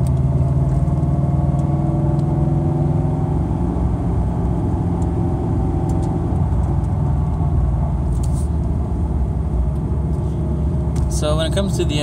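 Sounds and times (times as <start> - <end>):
car engine from inside cabin: 0.0 - 12.0
road noise: 0.0 - 12.0.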